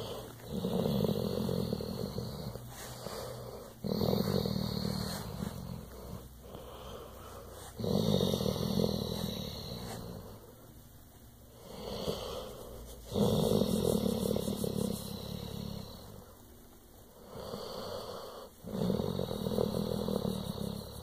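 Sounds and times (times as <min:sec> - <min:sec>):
dog breathing purr-like rumble: 0:00.0 - 0:10.6, 0:11.5 - 0:16.4, 0:17.2 - 0:21.0.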